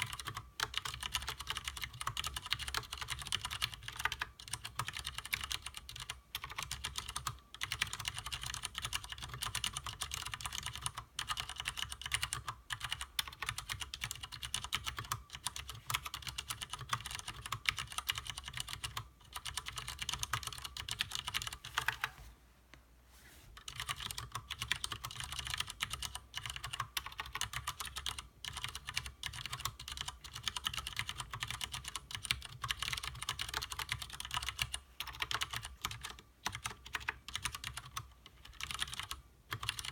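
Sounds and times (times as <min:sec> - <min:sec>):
fast typing on mechanical keyboard: 0:00.0 - 0:22.1, 0:23.6 - 0:39.9.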